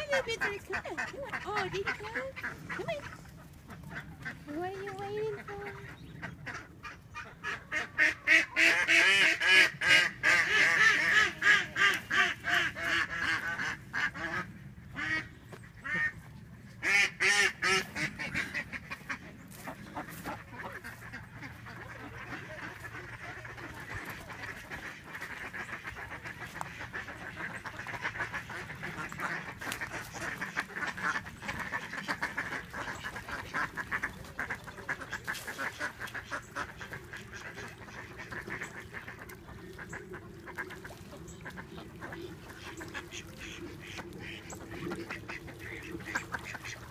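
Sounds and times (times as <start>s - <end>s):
ducks quacking: 0.0s - 46.9s.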